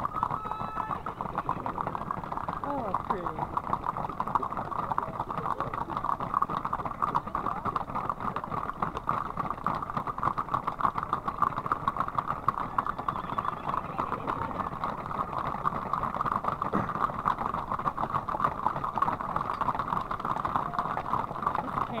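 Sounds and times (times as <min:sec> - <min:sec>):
horse hooves on asphalt: 0:00.0 - 0:22.0.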